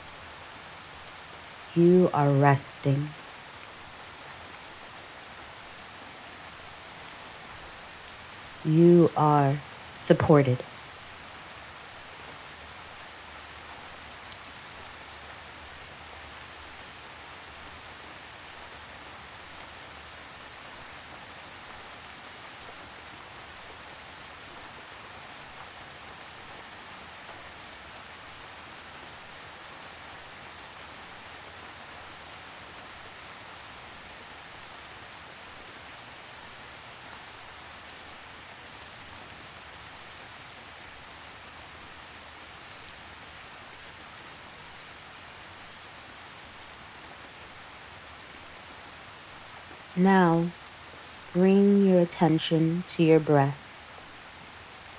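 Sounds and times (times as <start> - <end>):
light rain falling: 0.0 - 52.2, 52.9 - 54.9.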